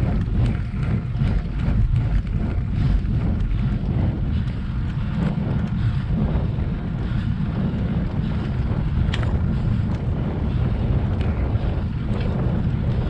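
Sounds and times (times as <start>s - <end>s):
bicycle clicks and rattles: 0.0s - 13.0s
wind buffeting microphone: 0.0s - 13.0s.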